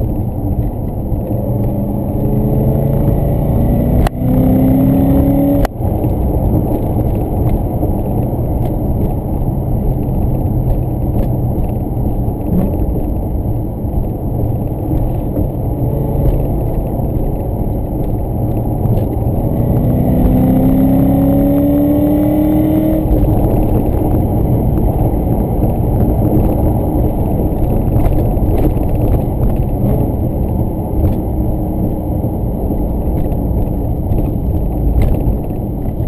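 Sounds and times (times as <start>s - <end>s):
engine and road rumble: 0.0s - 36.0s
car engine revving: 1.0s - 36.0s.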